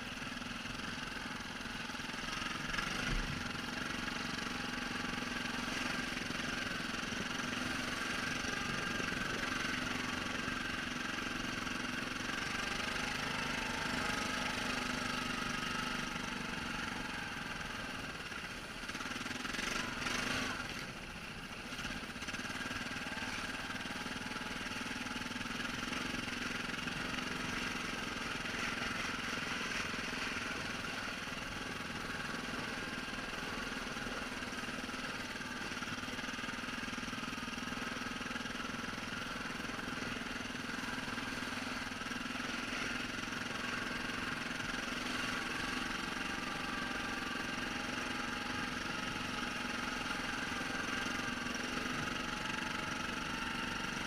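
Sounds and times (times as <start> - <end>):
atv engine running at low revs: 0.0 - 54.0.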